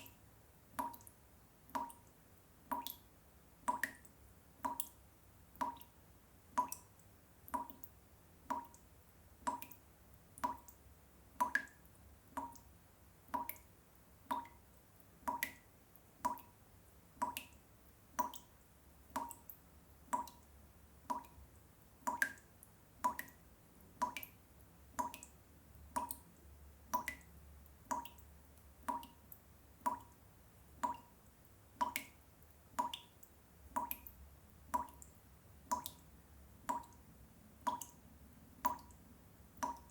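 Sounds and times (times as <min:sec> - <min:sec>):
water drops plinking into water: 0:00.0 - 0:09.8, 0:10.4 - 0:10.8, 0:11.4 - 0:12.7, 0:13.3 - 0:14.6, 0:15.3 - 0:18.5, 0:19.1 - 0:21.4, 0:22.0 - 0:23.4, 0:24.0 - 0:30.2, 0:30.8 - 0:31.2, 0:31.8 - 0:37.0, 0:37.6 - 0:38.0, 0:38.6 - 0:39.0, 0:39.6 - 0:39.9.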